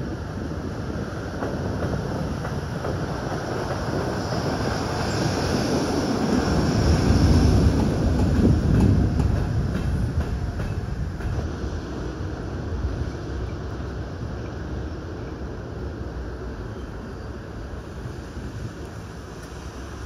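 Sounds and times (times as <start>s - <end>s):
locomotive wheels on rails: 0.0s - 20.0s.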